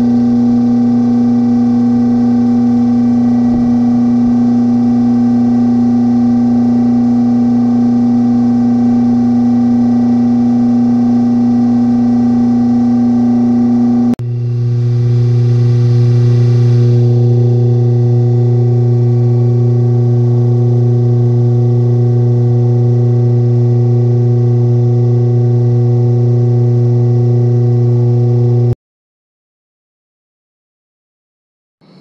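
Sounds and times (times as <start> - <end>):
loud low drone: 0.0 - 28.8.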